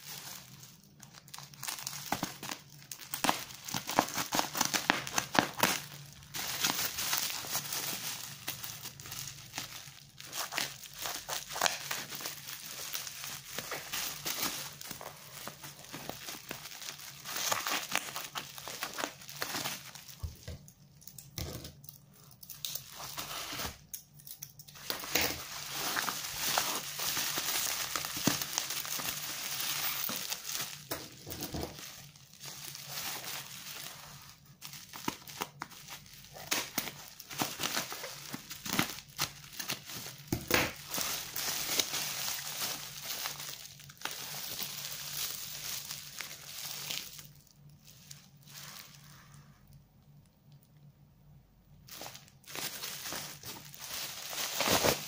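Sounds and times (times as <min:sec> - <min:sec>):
plastic wrapping crinkling: 0:00.0 - 0:49.8, 0:51.8 - 0:55.0.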